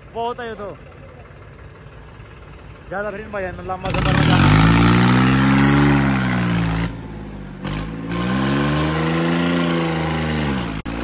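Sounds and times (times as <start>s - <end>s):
tractor diesel engine revving: 0.0s - 11.0s.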